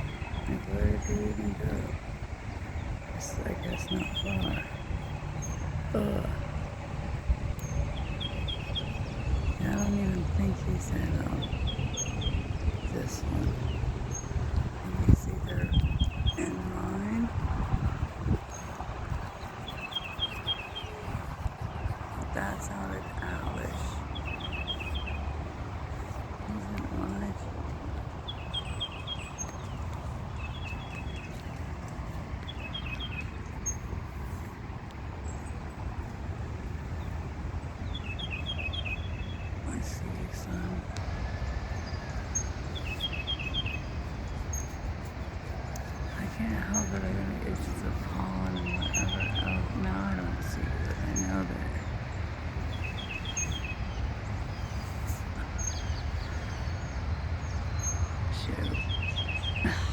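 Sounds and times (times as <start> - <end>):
songbird chirping: 0.0 - 59.9
steady low rumble: 0.0 - 59.9.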